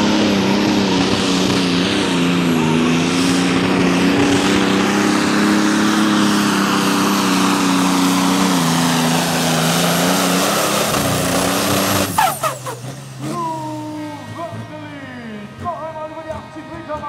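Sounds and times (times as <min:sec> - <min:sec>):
diesel engine high-revving drone: 0:00.0 - 0:17.0.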